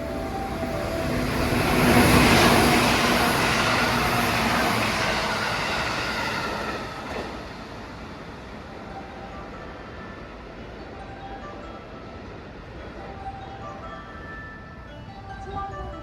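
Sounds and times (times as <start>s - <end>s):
electric train passing at speed: 0.0s - 16.0s.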